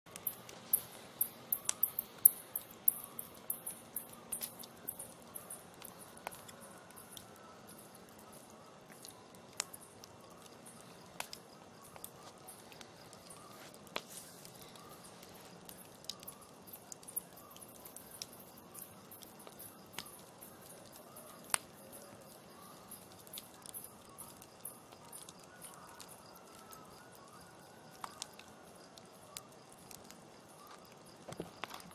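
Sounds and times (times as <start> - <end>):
campfire crackling and popping: 0.1 - 31.9.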